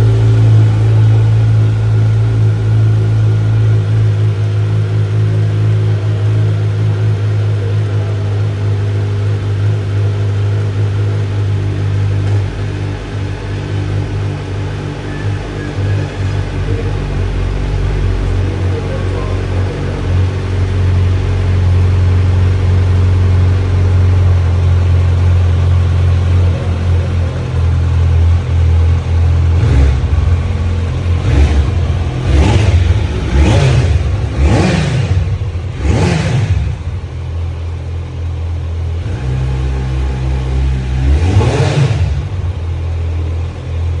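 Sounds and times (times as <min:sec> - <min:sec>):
motorcycle engine idling: 0:00.0 - 0:44.0
motorcycle throttle blips: 0:00.0 - 0:44.0.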